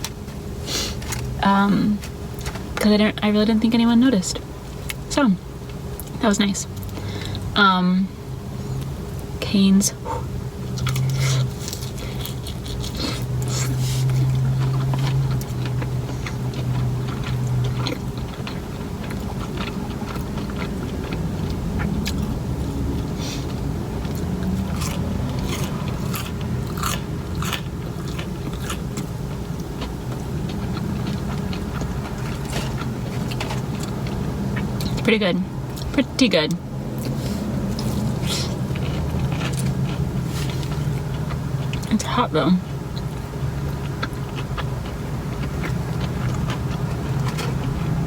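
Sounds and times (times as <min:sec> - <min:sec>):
crunchy chewing: 0:00.0 - 0:02.8, 0:08.5 - 0:42.0, 0:42.6 - 0:48.0
low hum: 0:00.0 - 0:48.0.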